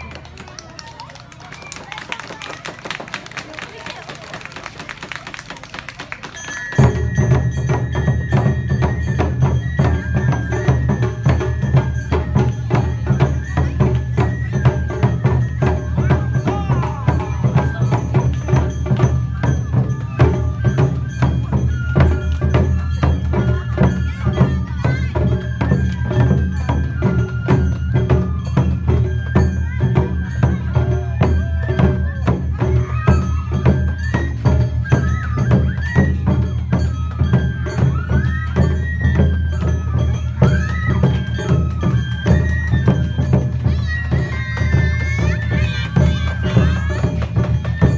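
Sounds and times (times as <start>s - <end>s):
drums beating: 0.0s - 47.9s
bamboo flute melody: 5.4s - 47.9s.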